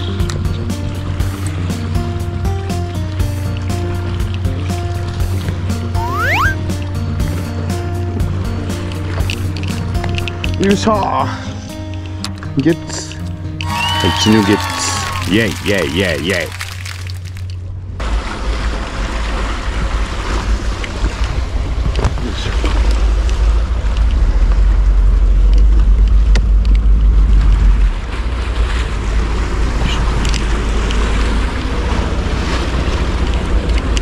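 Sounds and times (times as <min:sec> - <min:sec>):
boat engine running: 0:00.0 - 0:34.0
waves: 0:00.0 - 0:34.0.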